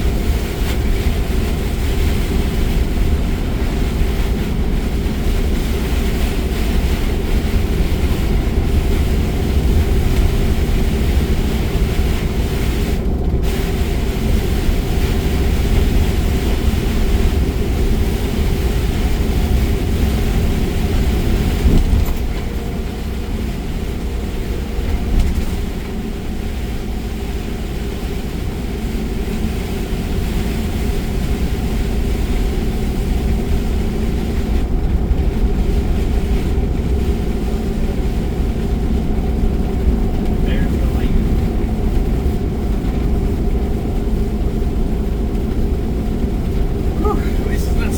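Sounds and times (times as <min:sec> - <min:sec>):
car driving in rain: 0:00.0 - 0:47.9.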